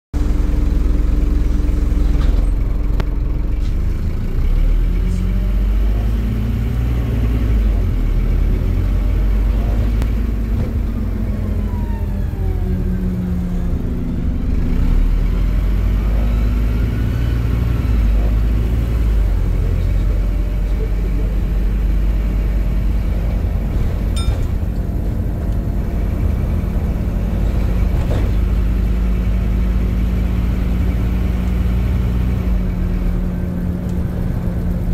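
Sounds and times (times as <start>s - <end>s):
bus diesel engine drone: 0.2s - 34.9s
road rumble: 0.2s - 34.9s.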